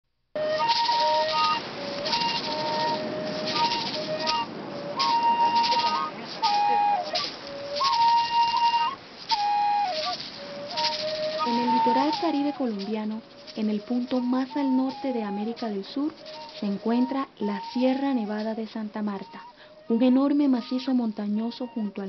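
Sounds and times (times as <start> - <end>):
flute playing slow melody: 0.4 - 22.0
rattle shaken: 0.5 - 19.6.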